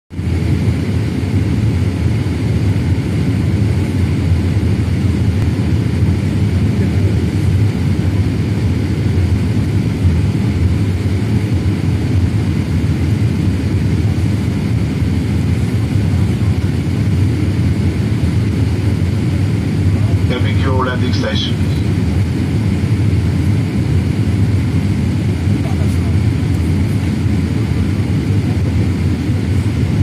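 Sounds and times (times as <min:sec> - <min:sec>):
jet engines rumbling: 0:00.2 - 0:30.0.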